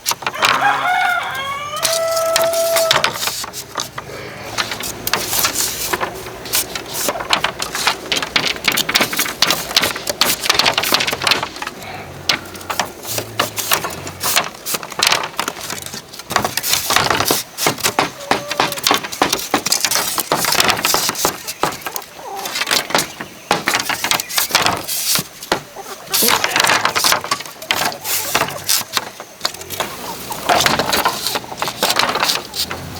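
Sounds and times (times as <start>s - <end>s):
bamboo knocking and cracking: 0.0s - 32.9s.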